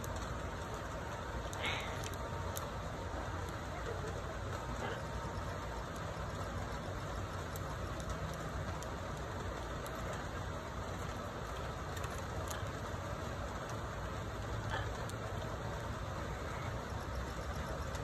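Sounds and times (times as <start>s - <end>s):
faint clicks: 0.0s - 18.0s
low rumbling background noise: 0.0s - 18.0s.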